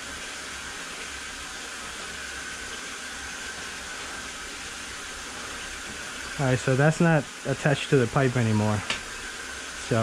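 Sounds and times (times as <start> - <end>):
water jetting hiss: 0.0 - 10.0.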